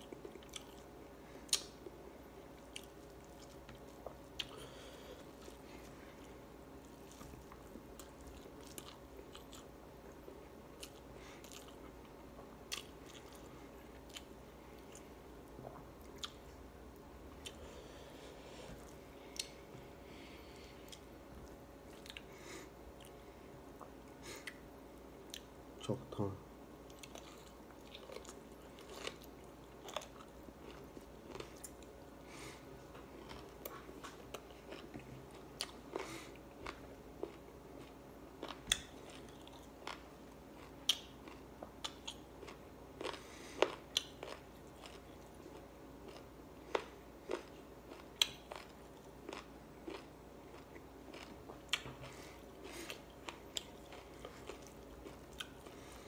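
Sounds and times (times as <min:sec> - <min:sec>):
person chewing: 0:00.0 - 0:24.6, 0:25.2 - 0:26.0, 0:26.9 - 0:56.0.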